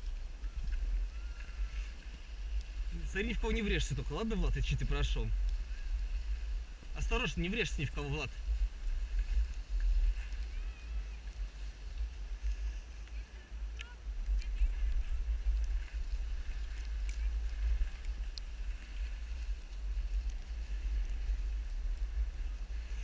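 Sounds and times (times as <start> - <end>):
faint clicks: 0.0 - 2.9, 3.5 - 6.3, 8.8 - 23.0
wind buffeting microphone: 0.0 - 23.0.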